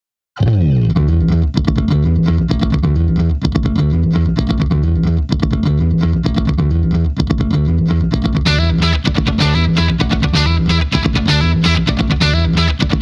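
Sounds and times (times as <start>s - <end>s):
bass guitar: 0.4s - 13.0s
guitar: 0.4s - 13.0s.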